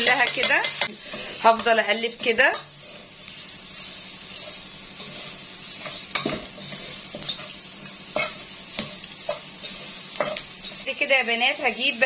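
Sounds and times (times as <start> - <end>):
wooden spoon scraping a pot: 0.0 - 11.1
food sizzling in a pot: 0.0 - 12.0.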